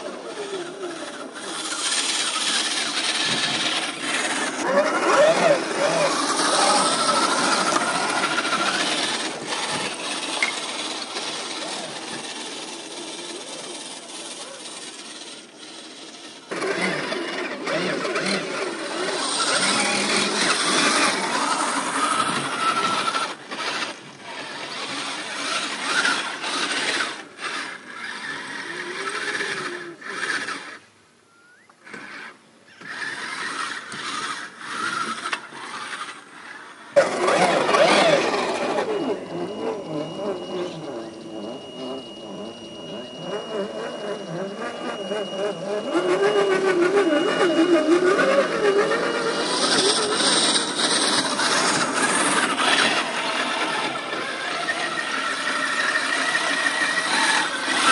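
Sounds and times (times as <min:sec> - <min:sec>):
rc truck motor whine: 0:00.0 - 0:57.9.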